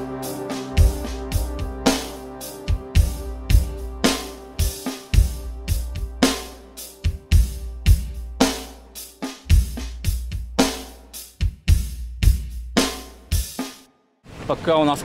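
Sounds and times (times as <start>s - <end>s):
deep bass line: 0.0s - 13.6s
drum-kit beat: 0.0s - 13.8s.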